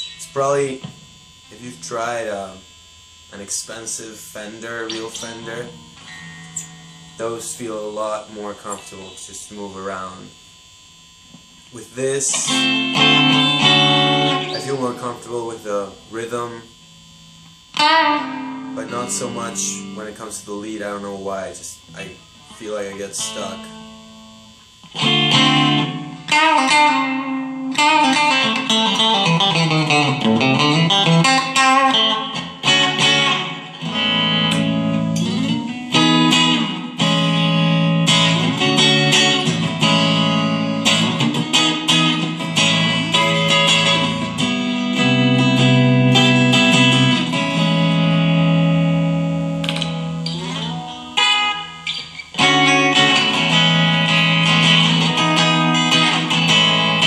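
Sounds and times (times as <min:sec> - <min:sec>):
electric guitar through amplifier: 0:00.0 - 0:57.0.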